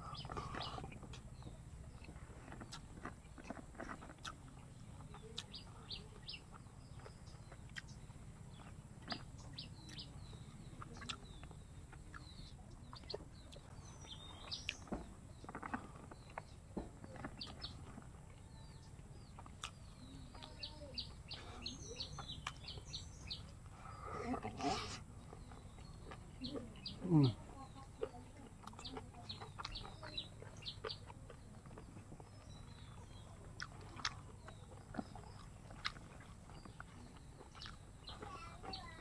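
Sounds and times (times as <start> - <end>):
birds chirping: 0.0 - 39.0
person eating by hand: 0.0 - 39.0.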